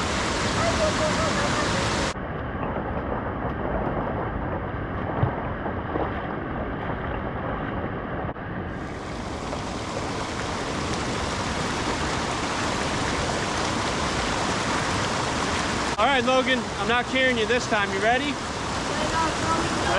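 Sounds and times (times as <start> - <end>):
mountain stream rushing: 0.0 - 19.9.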